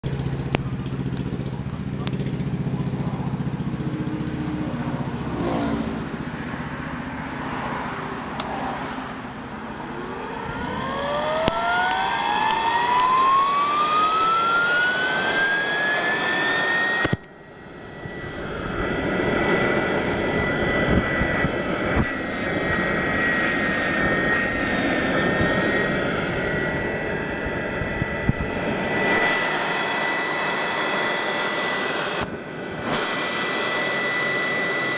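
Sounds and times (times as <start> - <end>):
blower whine: 0.0 - 34.9.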